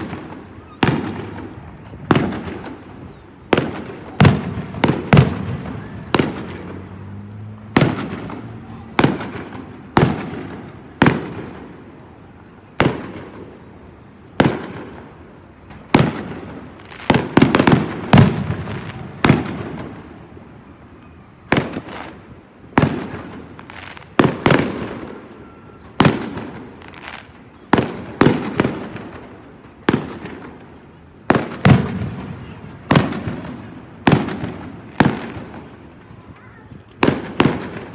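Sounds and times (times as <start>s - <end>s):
fireworks bangs with rumbling echo: 0.0s - 37.9s.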